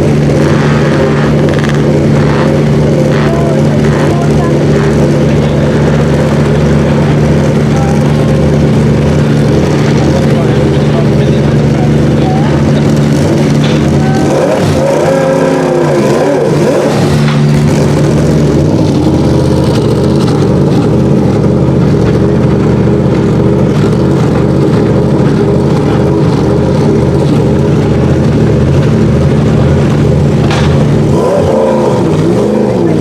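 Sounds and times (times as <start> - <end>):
race car engine idling: 0.0 - 33.0.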